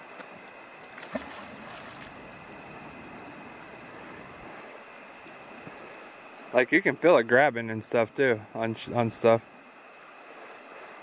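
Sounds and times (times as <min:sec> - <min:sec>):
faint hiss: 0:00.0 - 0:11.0
night insects calling: 0:00.0 - 0:11.0.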